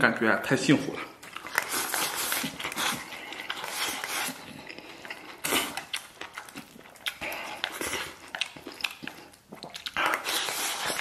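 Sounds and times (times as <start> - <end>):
noisy slurping and chewing: 0.9 - 11.0.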